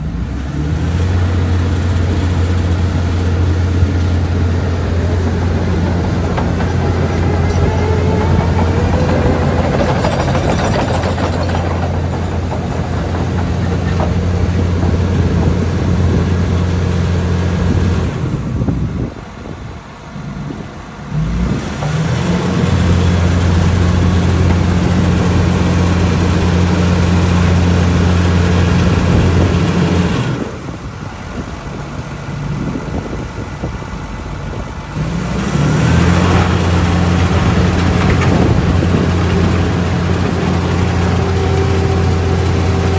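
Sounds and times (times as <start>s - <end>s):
diesel engine at high revs: 0.0s - 42.9s.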